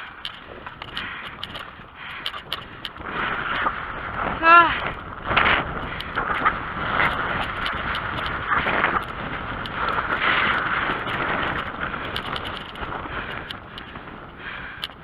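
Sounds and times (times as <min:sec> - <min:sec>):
bicycle tyre and frame rolling: 0:00.0 - 0:15.0
wind on microphone: 0:00.0 - 0:15.0.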